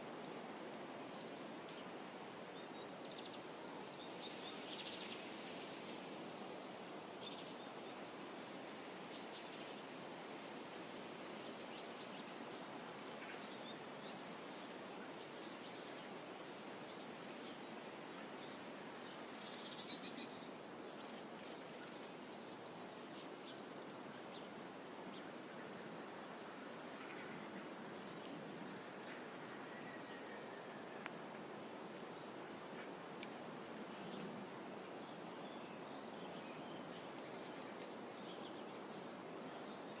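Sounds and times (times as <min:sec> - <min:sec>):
soft outdoor hiss: 0:00.0 - 0:40.0
songbirds chirping: 0:00.0 - 0:40.0.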